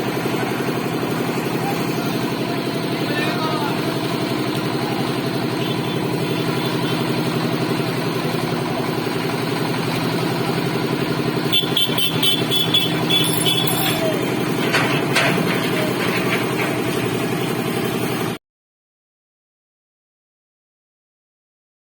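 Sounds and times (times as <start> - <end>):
engine running with pulsing beat: 0.0 - 18.4.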